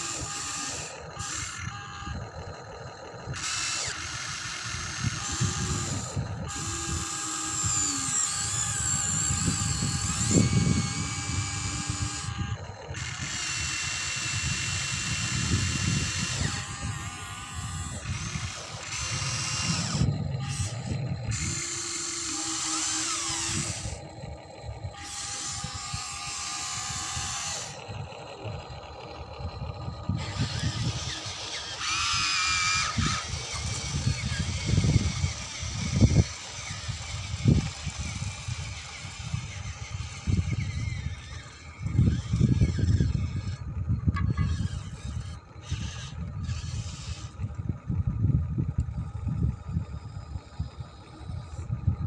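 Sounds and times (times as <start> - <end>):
toy excavator motors whining: 0.0 - 52.0.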